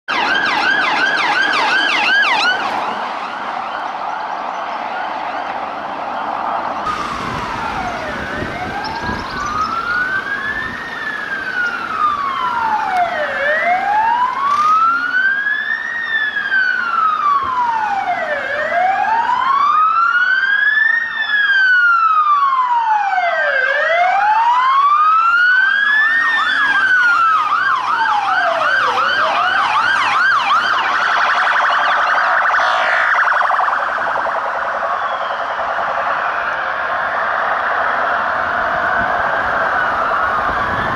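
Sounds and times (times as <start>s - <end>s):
police sirens wailing: 0.0s - 40.9s
siren fast yelp: 0.1s - 2.9s, 6.8s - 40.9s.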